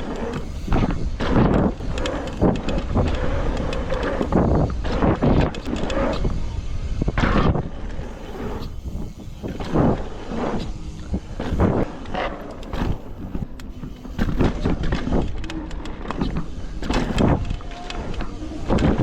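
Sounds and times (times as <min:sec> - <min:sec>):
bike knocking and rattling: 0:00.0 - 0:19.0
bike tyres rumbling on dirt: 0:00.0 - 0:19.0.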